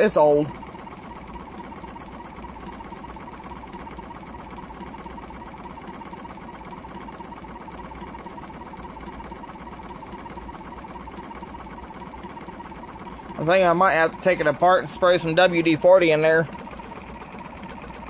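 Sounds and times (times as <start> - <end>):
air compressor motor chattering: 0.0 - 18.0.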